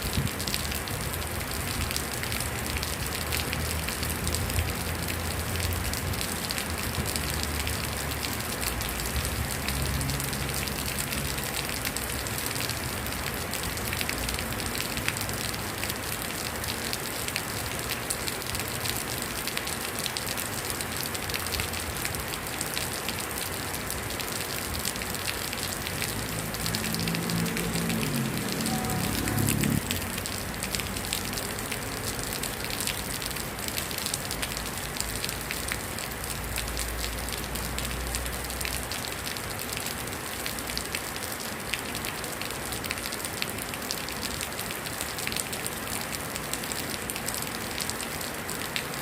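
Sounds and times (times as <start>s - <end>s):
heavy rain on a metal roof: 0.0s - 49.0s.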